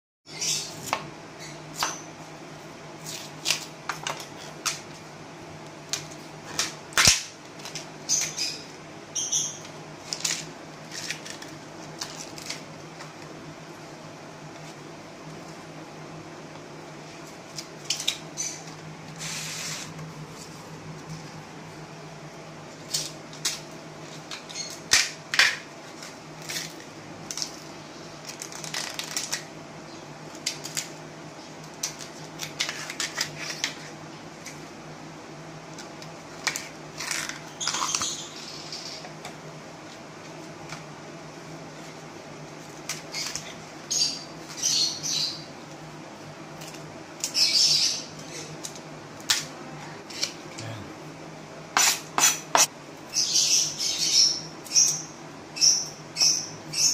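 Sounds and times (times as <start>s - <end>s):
steady low hum: 0.3s - 56.9s.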